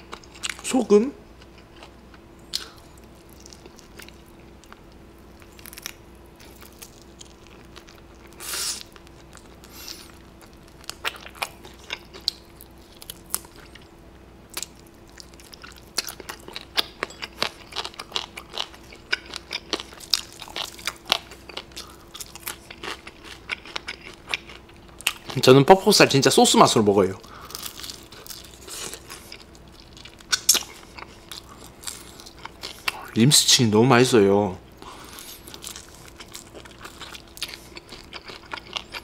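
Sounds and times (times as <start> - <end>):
faint steady hum: 0.0 - 39.0
crunching fried chicken: 1.4 - 33.3, 34.7 - 39.0.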